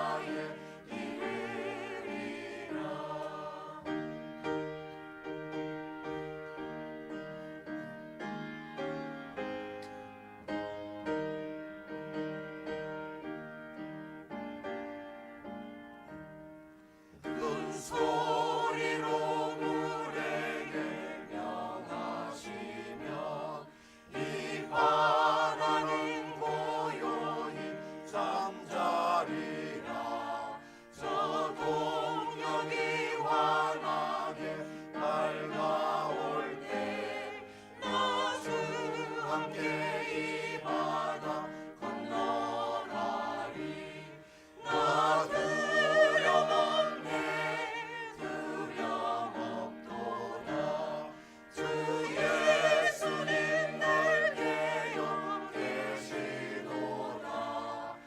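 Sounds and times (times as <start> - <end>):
choir singing a hymn: 0.0 - 14.6, 17.0 - 58.0.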